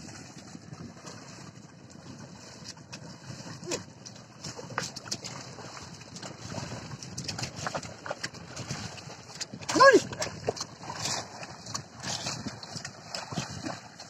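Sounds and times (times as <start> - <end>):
mud and water sloshing: 0.0 - 14.0.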